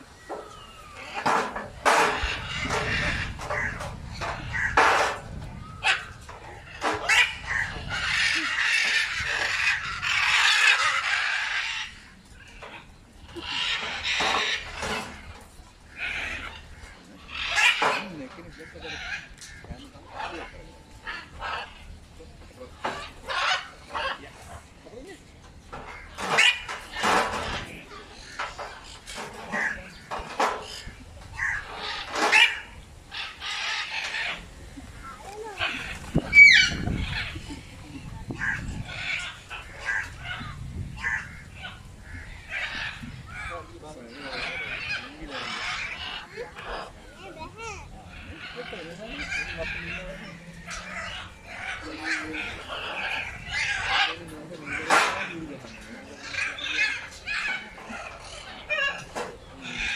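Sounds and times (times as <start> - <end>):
macaws squawking: 0.0 - 59.9.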